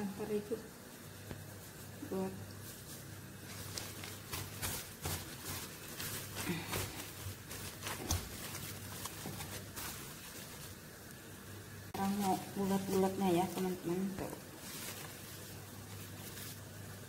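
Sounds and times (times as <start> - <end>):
low steady hum: 0.0 - 17.0
hands kneading wet dough: 0.9 - 17.0.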